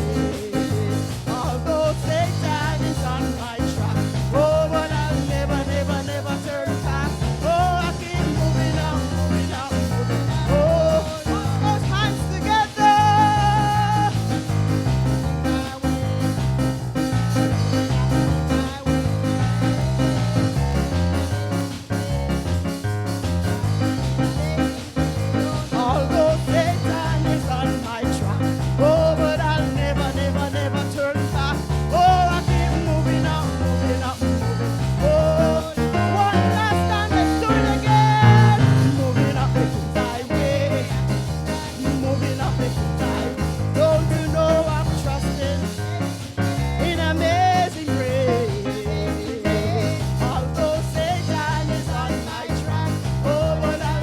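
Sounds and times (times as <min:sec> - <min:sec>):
live worship music with singing: 0:00.0 - 0:54.0.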